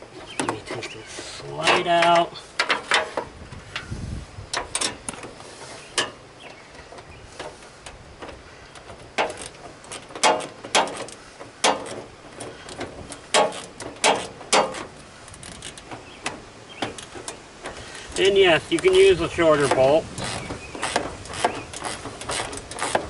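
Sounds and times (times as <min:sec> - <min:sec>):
hand tools clicking and clacking: 0:01.6 - 0:03.9, 0:04.5 - 0:23.0.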